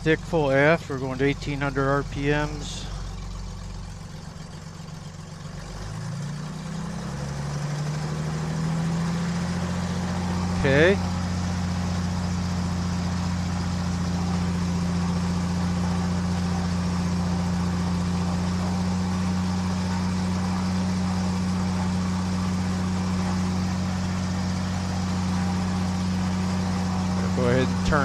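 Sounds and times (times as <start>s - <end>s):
light airplane engine droning: 0.0s - 28.0s.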